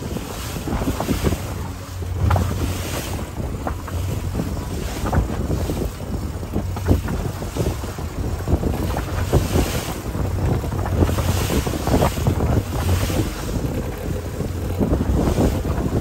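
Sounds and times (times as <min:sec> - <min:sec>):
outboard motor running: 0:00.0 - 0:16.0
water slapping against boat hull: 0:00.0 - 0:16.0
wind buffeting microphone: 0:00.0 - 0:16.0.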